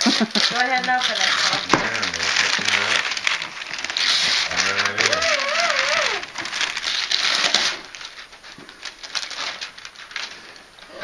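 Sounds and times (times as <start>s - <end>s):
wrapping paper tearing and crinkling: 0.0s - 11.0s.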